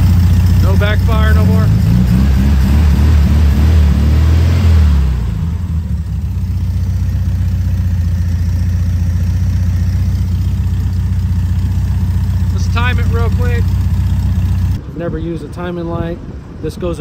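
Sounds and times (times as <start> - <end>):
car engine revving and idling: 0.0 - 14.8.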